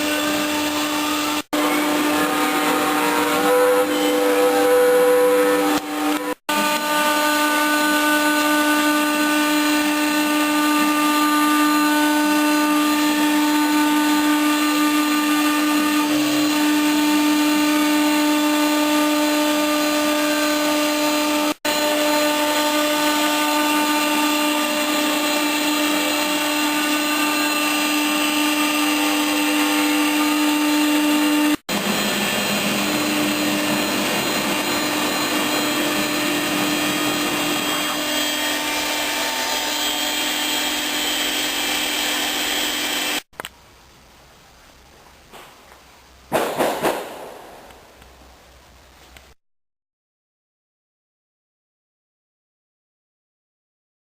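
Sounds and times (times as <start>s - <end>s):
router spindle motor whining: 0.0s - 43.3s.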